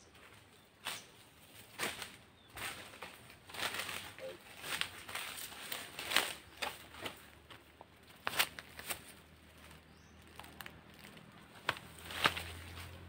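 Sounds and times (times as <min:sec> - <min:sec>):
footsteps crunching dry leaves: 0:00.1 - 0:13.0.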